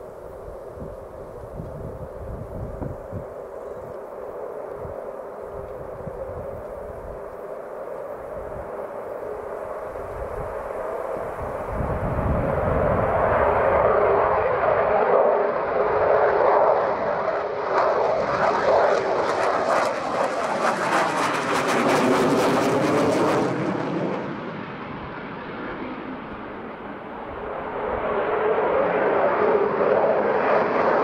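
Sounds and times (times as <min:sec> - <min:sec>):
jet engines at takeoff power: 0:00.0 - 0:31.0.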